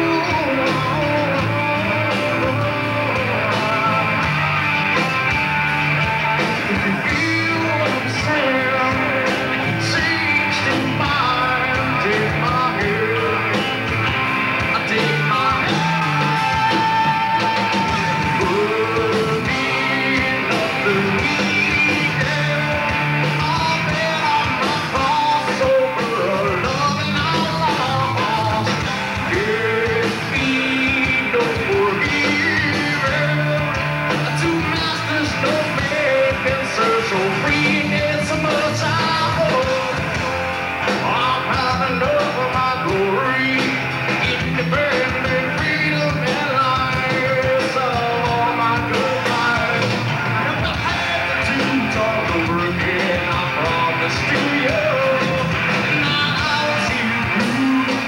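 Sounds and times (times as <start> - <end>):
bass guitar: 0.0 - 58.0
drums: 0.0 - 58.0
electric guitar: 0.0 - 58.0
person singing: 0.0 - 58.0.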